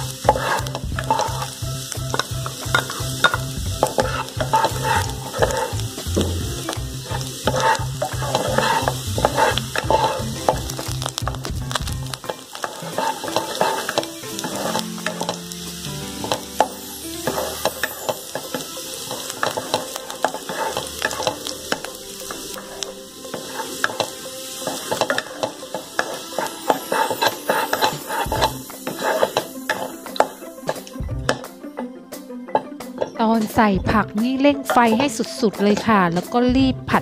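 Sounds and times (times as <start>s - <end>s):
garlic sizzling in a wok: 0.0s - 31.6s, 32.6s - 37.0s.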